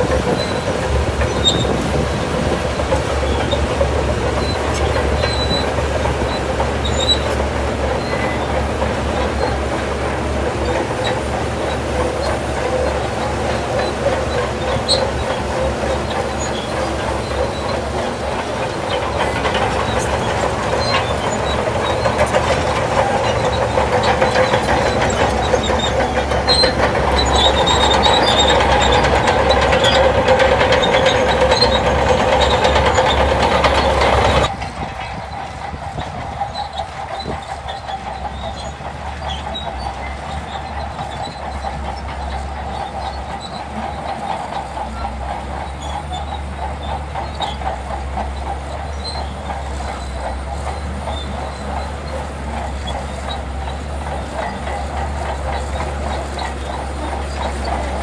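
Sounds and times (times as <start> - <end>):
bulldozer engine under load: 0.0 - 58.0
steel tracks clanking and squeaking: 0.0 - 58.0.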